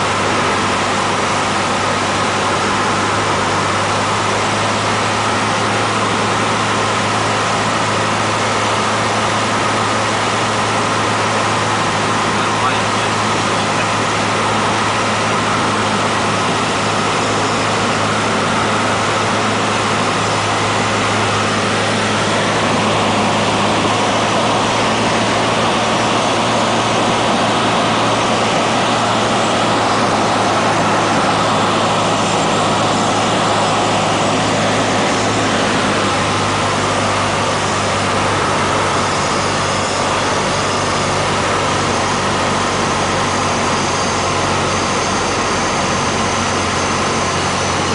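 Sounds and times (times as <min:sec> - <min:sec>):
plane engine droning: 0:00.0 - 0:47.9.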